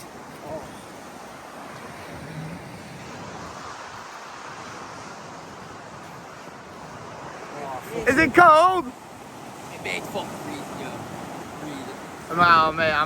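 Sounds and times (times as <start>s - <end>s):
sea surf washing on shore: 0.0s - 13.0s
wind on microphone: 0.0s - 13.0s.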